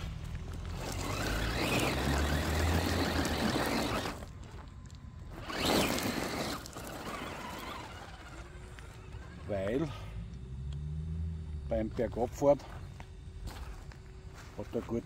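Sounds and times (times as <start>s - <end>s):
tyres crunching over gravel: 0.0s - 10.1s, 11.7s - 15.0s.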